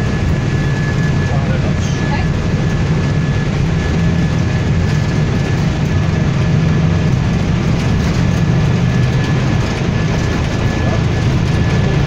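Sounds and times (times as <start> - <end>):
jet engines rumbling: 0.0 - 12.0
wheels on runway: 0.0 - 12.0.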